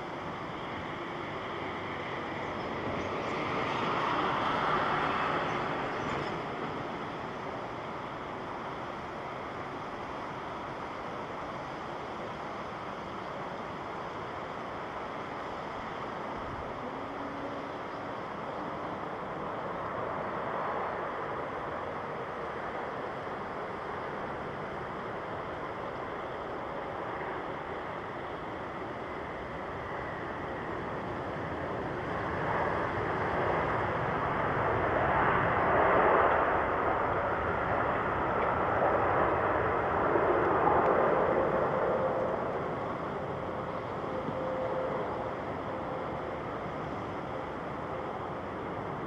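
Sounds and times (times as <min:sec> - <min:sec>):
jet airliner passing: 0:00.0 - 0:10.8, 0:14.2 - 0:49.0.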